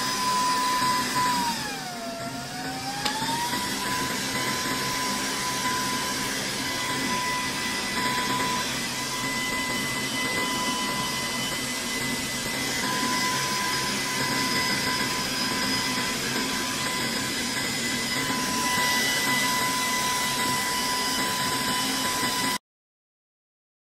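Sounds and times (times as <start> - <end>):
fume extractor fan: 0.0 - 22.6
thin steady whine: 0.0 - 22.6.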